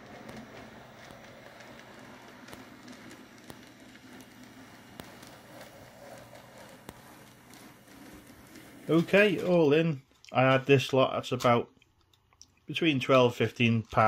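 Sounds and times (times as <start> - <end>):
model train motor whirring: 0.0 - 11.6.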